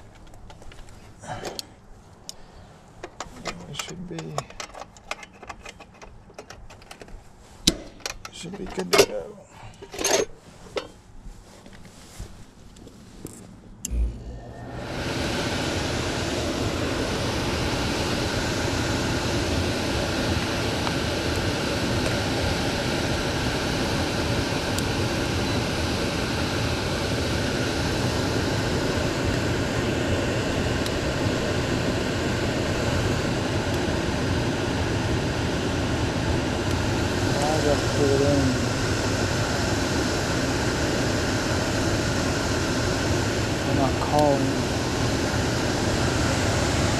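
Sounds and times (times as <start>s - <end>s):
fan-driven air rushing: 7.2s - 46.9s.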